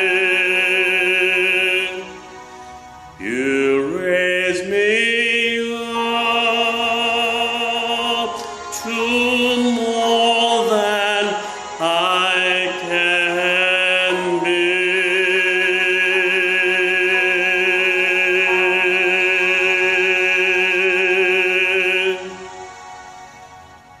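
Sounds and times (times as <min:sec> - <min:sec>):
man singing with vibrato: 0:00.0 - 0:02.3, 0:03.2 - 0:23.0.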